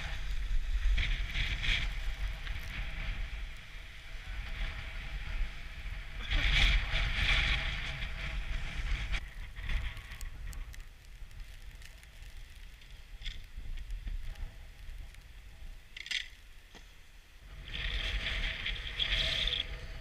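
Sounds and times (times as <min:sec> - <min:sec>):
wind buffeting microphone: 0:00.0 - 0:16.7, 0:17.4 - 0:20.0
skis scraping over snow: 0:00.0 - 0:16.8, 0:17.4 - 0:20.0.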